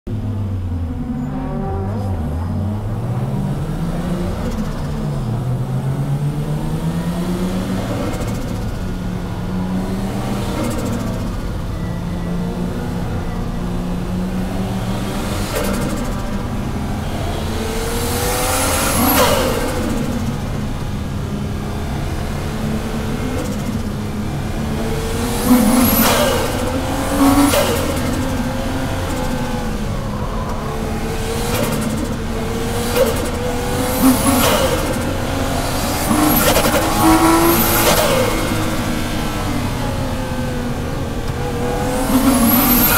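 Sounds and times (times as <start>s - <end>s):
car engine revving: 0.1s - 42.9s.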